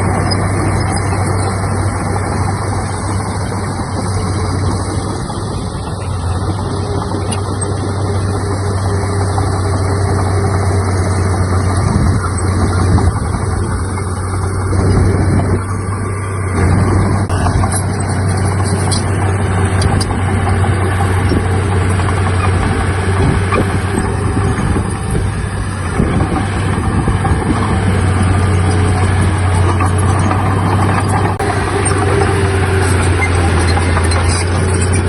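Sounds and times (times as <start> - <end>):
diesel machinery engine hum: 0.0 - 35.0.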